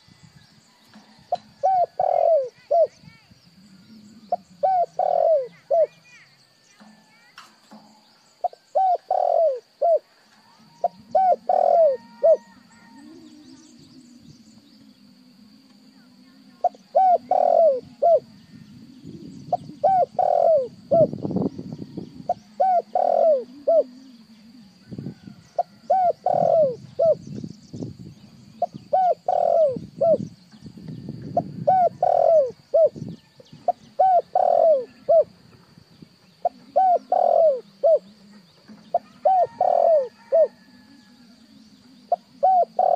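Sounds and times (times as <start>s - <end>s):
dove cooing: 0.0s - 7.0s, 7.6s - 30.3s, 31.1s - 35.5s, 36.1s - 42.9s.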